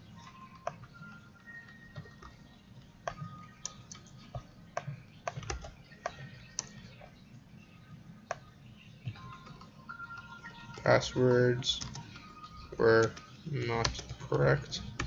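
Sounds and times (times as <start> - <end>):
keyboard typing: 0.1 - 7.2, 8.3 - 15.0.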